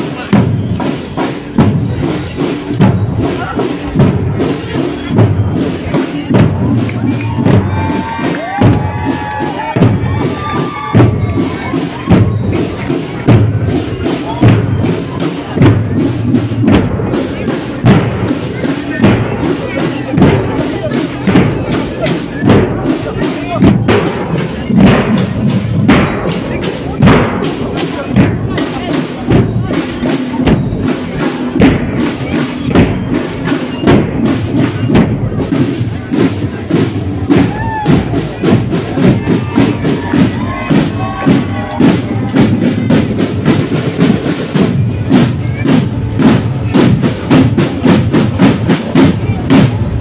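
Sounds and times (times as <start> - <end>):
marching bass drums: 0.0 - 50.0.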